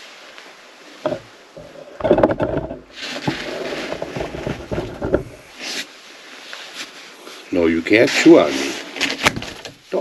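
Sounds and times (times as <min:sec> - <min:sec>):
rustling and scraping: 0:00.0 - 0:10.0.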